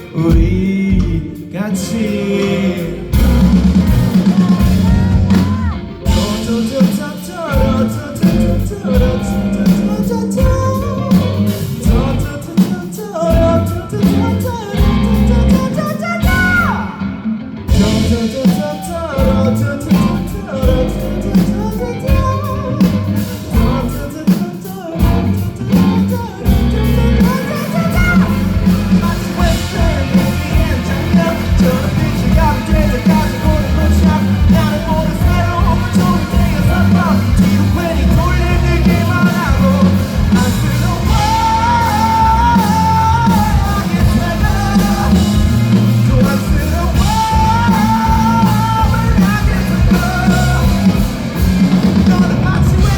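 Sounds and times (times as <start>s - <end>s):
live rock band playing: 0.0s - 52.9s
person singing: 0.0s - 52.9s.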